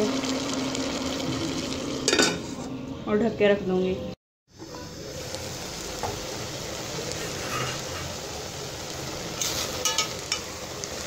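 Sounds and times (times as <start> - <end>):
pot simmering with sizzling hiss: 0.0 - 2.7, 4.5 - 11.0.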